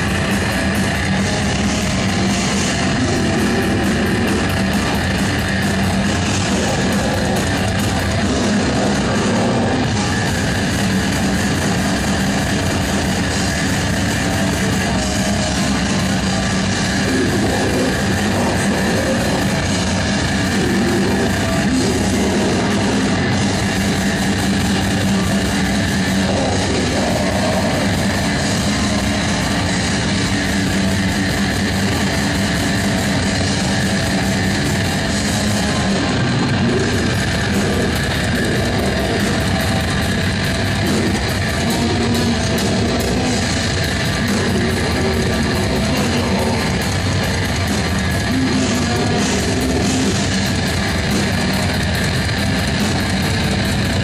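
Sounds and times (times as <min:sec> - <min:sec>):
metal band playing live: 0:00.0 - 0:54.0.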